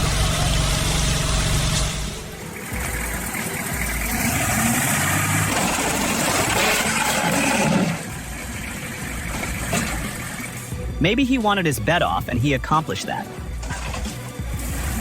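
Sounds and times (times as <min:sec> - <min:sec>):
vehicle engine running: 0:00.0 - 0:11.4, 0:13.4 - 0:15.0.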